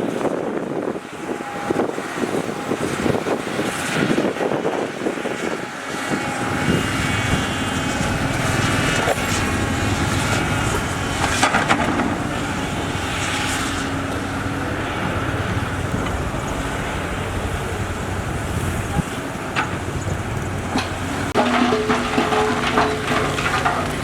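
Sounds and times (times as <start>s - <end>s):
heavy machinery diesel engines: 0.0s - 24.0s.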